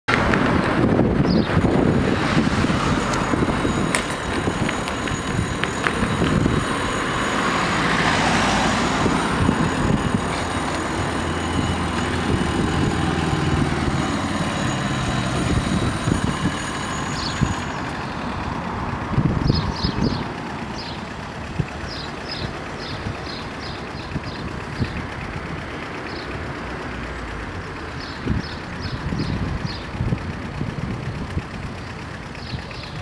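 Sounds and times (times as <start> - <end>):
car engines idling: 0.1 - 33.0
cars driving over crossing: 0.1 - 33.0
level crossing warning bells: 1.6 - 33.0.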